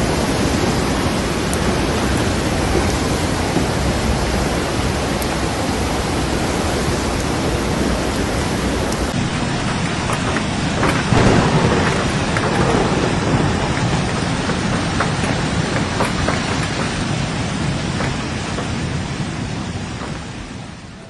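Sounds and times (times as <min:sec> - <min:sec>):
heavy rain falling: 0:00.0 - 0:21.0
low rumbling: 0:00.0 - 0:21.0.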